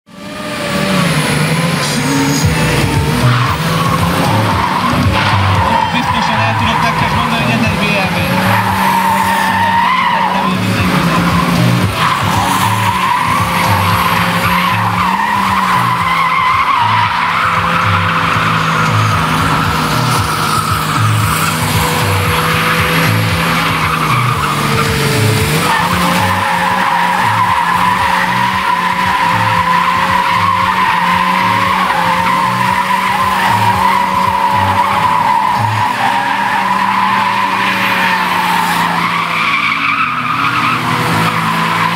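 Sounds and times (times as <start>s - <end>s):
car engine running hard: 0.1s - 41.9s
tyres squealing: 0.5s - 41.9s.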